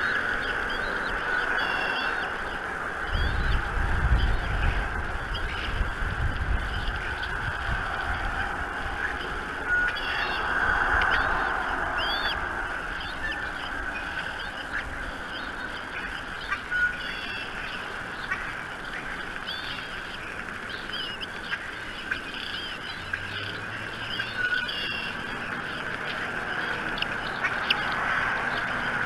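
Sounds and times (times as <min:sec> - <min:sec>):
birds chirping: 0:00.0 - 0:29.0
steady hiss: 0:00.0 - 0:29.0.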